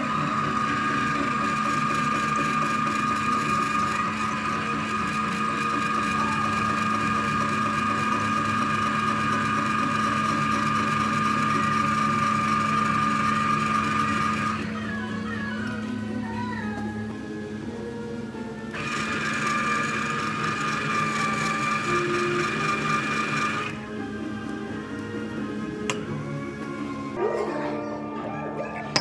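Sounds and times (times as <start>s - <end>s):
citrus juicer motor humming: 0.0s - 27.2s.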